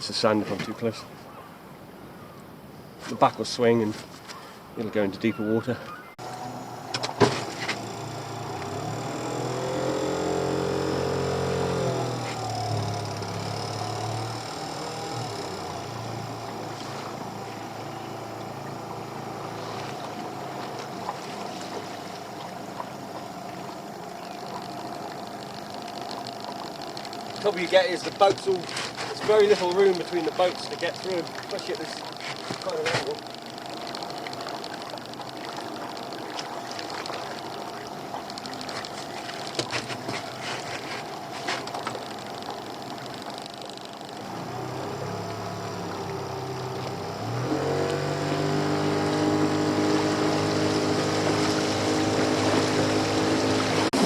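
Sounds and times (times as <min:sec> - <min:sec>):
boat engine hum: 0:00.0 - 0:54.0
water: 0:00.0 - 0:54.0
wind: 0:00.0 - 0:54.0.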